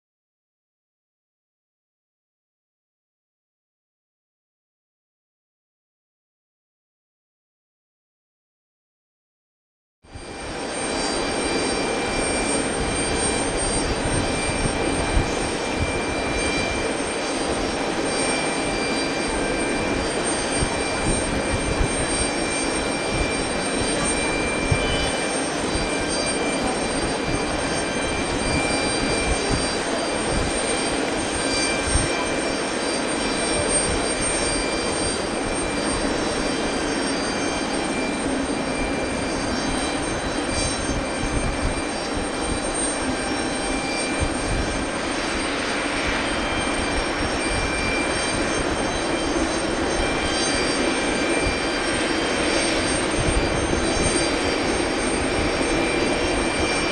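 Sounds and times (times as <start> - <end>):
jet engines whining: 10.1 - 56.9.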